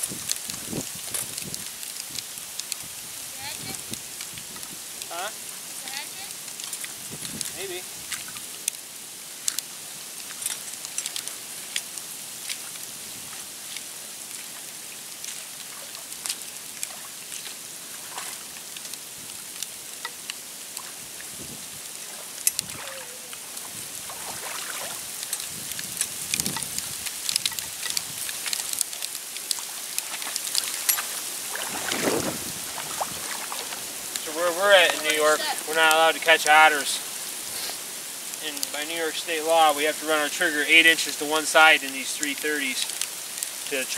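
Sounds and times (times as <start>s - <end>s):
water dripping and splashing: 0.0s - 43.9s.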